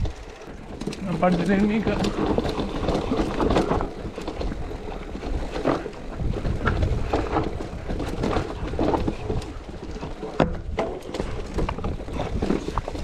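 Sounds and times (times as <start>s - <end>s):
bike knocking and rattling: 0.0s - 13.0s
tyres rumbling on rocky ground: 0.0s - 13.0s
wind noise on microphone: 1.8s - 13.0s.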